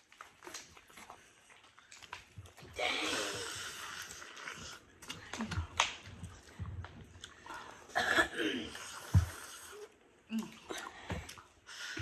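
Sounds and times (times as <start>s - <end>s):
people biting and chewing: 0.0s - 12.0s.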